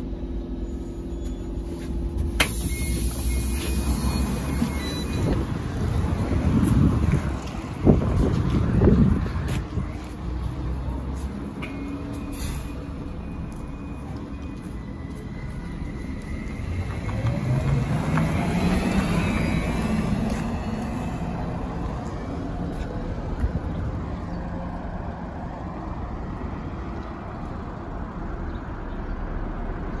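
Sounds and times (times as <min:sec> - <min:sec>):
trolleybus rumbling: 0:00.0 - 0:30.0.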